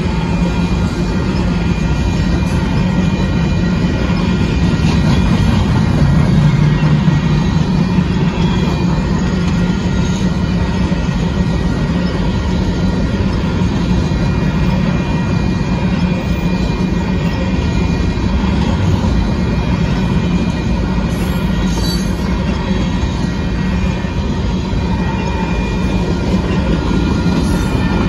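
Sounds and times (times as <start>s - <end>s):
freight train wheels rumbling on rails: 0.0s - 28.0s.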